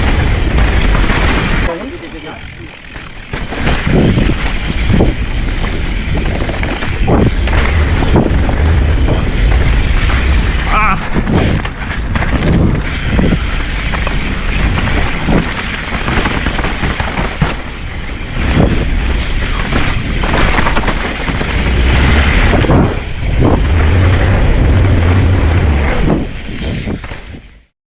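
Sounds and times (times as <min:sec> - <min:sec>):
tyres rolling over dirt and rocks: 0:00.0 - 0:27.4
wind buffeting microphone: 0:00.0 - 0:27.5.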